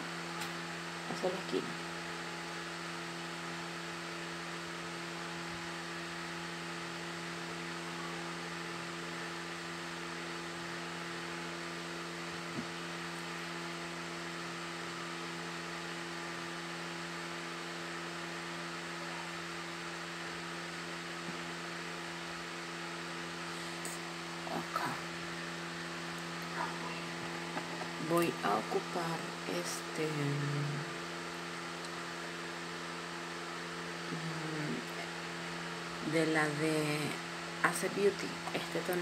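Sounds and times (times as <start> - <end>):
electrical hum with faint hiss: 0.0 - 39.0.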